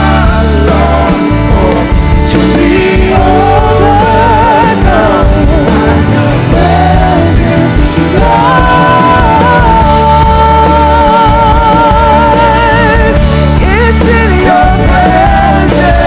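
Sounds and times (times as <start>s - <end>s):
person singing with vibrato: 0.0s - 16.0s
worship band playing: 0.0s - 16.0s.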